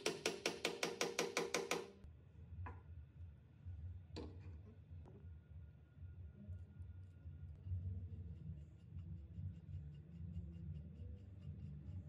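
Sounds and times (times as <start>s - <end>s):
low steady hum: 2.0s - 12.0s.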